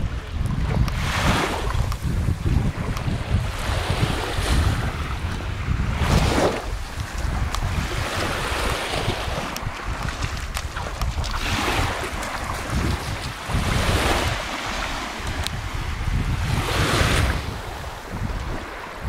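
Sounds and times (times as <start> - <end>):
small waves lapping on sand: 0.0 - 19.0
wind buffeting microphone: 0.0 - 19.0.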